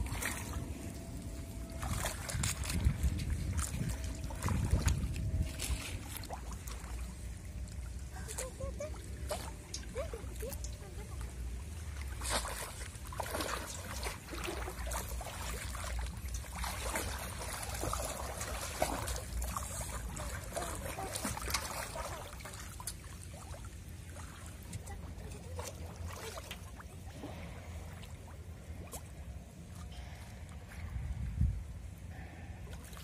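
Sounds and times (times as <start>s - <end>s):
shallow water splashing: 0.0s - 31.2s.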